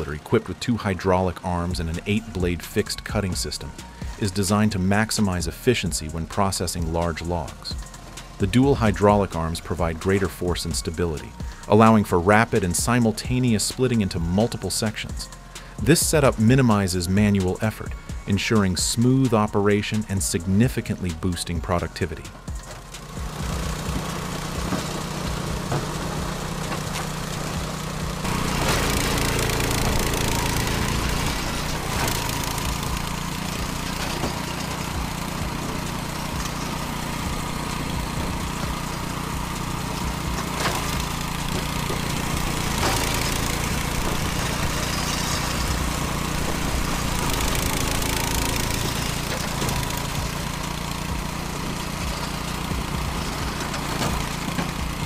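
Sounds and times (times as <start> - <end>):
log splitter engine running: 0.0 - 55.0.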